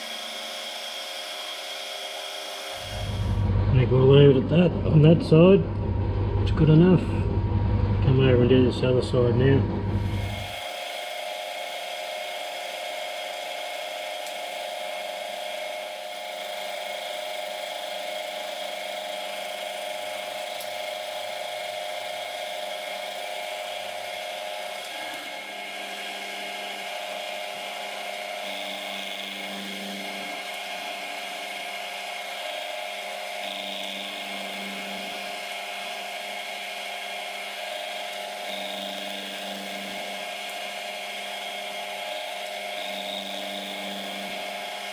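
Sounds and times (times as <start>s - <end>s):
milling machine whine: 0.0s - 44.9s.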